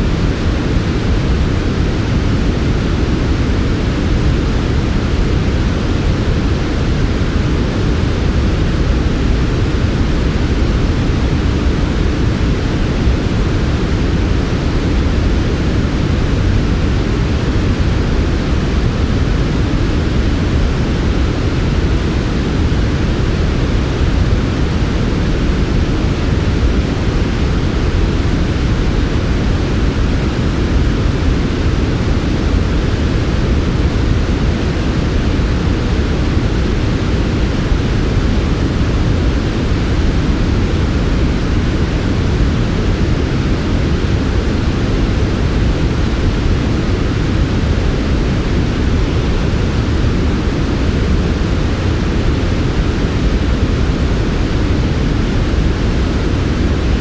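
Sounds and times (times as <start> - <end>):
white noise: 0.0 - 57.0.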